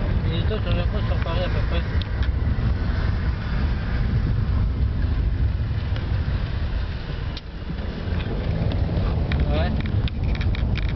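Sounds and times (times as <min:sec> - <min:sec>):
road and engine rumble inside car: 0:00.0 - 0:10.9.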